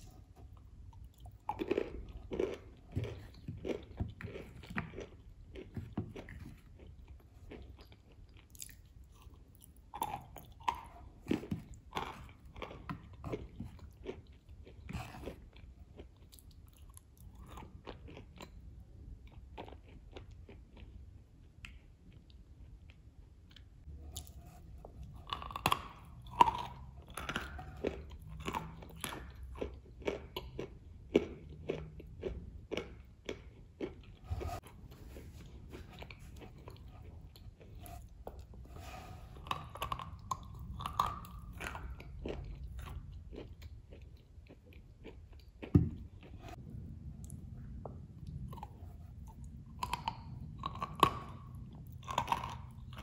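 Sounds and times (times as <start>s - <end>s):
crunching and chewing cookie: 0.0s - 53.0s.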